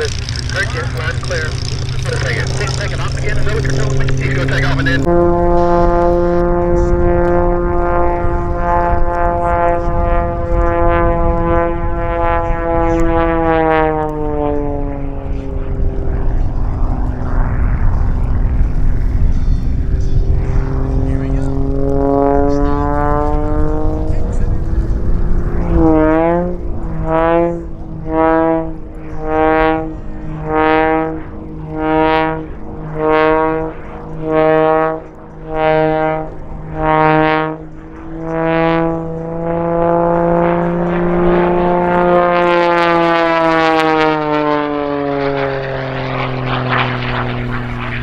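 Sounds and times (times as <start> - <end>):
propeller plane engine drone: 0.0 - 48.0.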